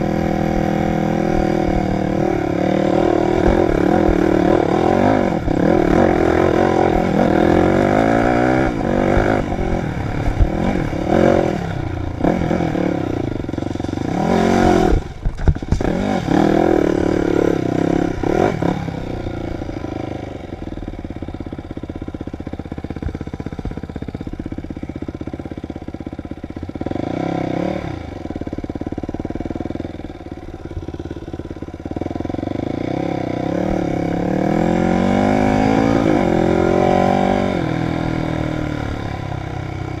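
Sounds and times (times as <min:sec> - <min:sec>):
dirt bike engine revving: 0:00.0 - 0:24.6, 0:26.5 - 0:29.8, 0:30.7 - 0:40.0.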